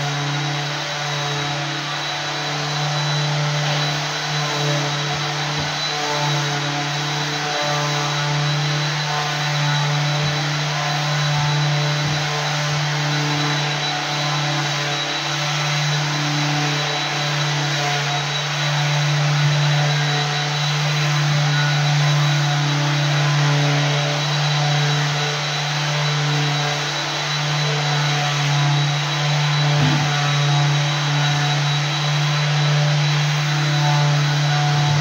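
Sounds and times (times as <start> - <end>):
floor sanding machine running: 0.0 - 35.0.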